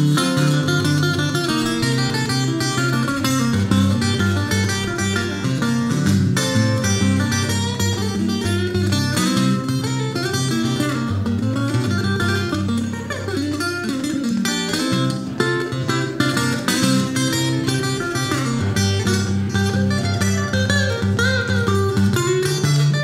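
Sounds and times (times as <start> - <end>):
fingerpicked blues acoustic guitar: 0.0 - 23.0.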